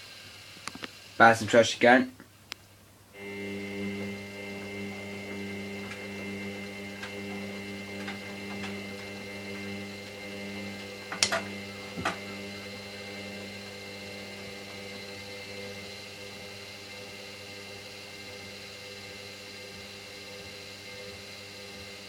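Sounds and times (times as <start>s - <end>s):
washing machine humming: 0.0s - 22.0s.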